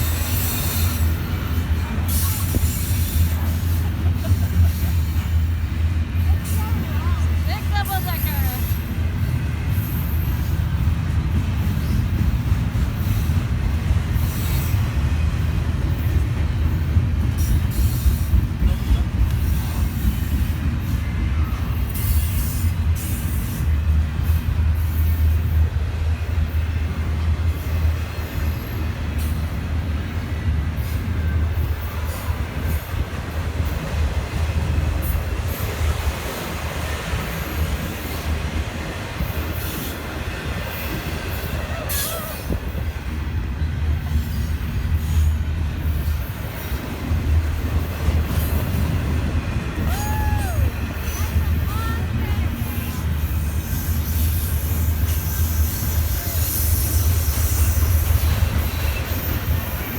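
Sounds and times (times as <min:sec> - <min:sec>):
train rumbling past: 0:00.0 - 0:59.9
train wheels clicking and clanking: 0:00.0 - 0:59.9.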